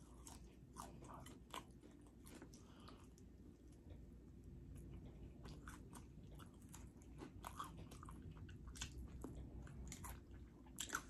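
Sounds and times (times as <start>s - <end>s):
chewing and crunching: 0.0s - 11.0s
low steady hum: 0.0s - 11.0s.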